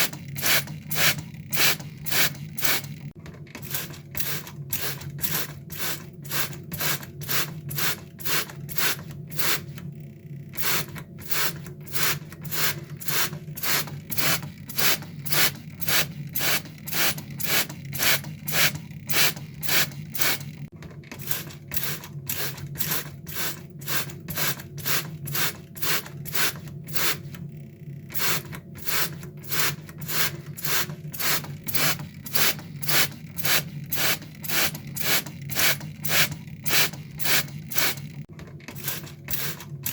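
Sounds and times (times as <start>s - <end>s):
water sprayer hissing sprays: 0.0s - 2.9s, 3.7s - 9.8s, 10.6s - 27.3s, 28.1s - 39.9s.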